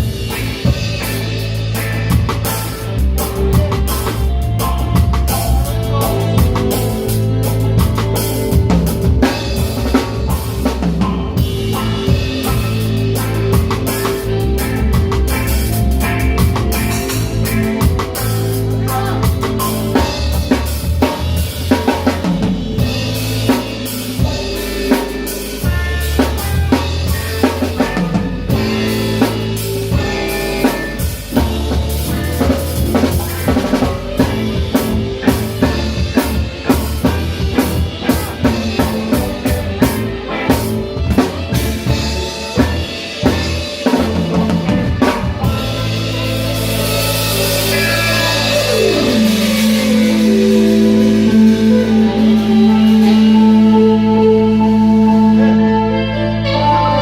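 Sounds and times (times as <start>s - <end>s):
drum kit hits: 0.0s - 55.5s
reggae band playing: 0.0s - 57.0s
steady bass line: 0.0s - 57.0s.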